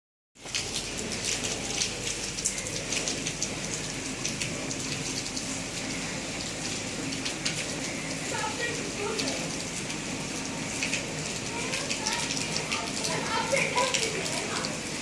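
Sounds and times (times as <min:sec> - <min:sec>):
rain drops on hard surfaces: 0:00.4 - 0:15.0.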